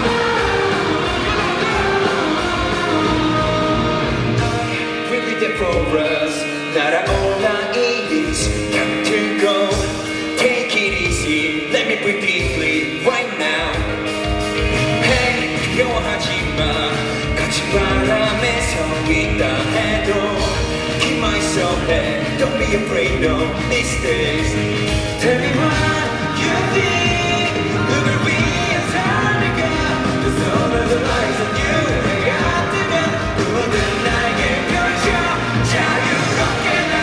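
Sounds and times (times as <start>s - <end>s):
drums: 0.0s - 37.0s
live pop-rock band playing: 0.0s - 37.0s
person singing: 0.0s - 37.0s.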